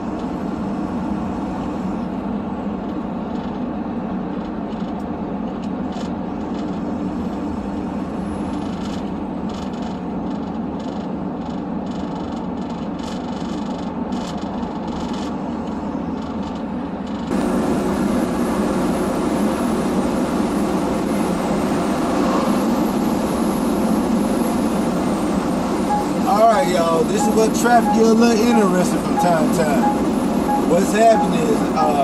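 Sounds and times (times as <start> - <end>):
truck engine and road noise: 0.0 - 32.0.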